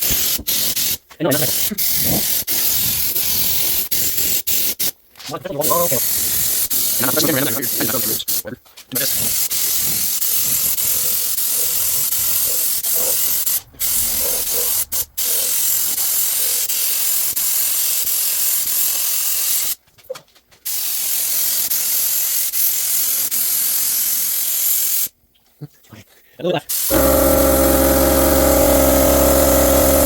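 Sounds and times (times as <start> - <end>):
paint spray gun hissing: 0.0 - 4.9, 5.6 - 8.4, 9.0 - 19.8, 20.7 - 25.1, 26.7 - 30.0.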